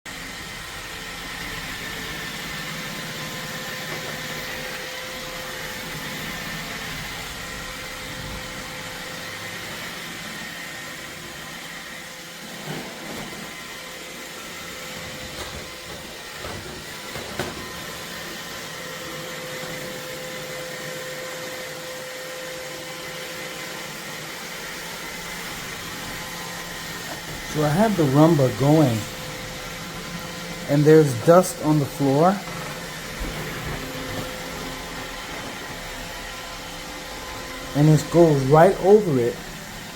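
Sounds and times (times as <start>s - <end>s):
robot vacuum whirring: 0.1s - 39.9s.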